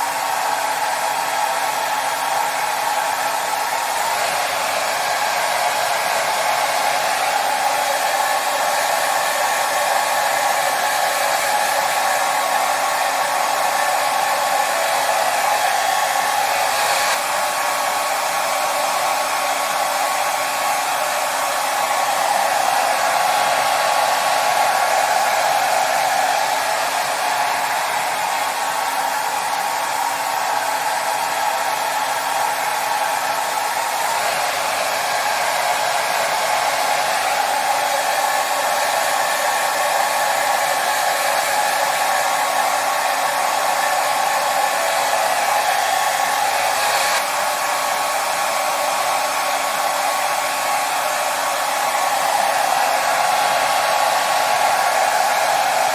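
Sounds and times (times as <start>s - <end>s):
hair dryer blowing: 0.0s - 55.9s.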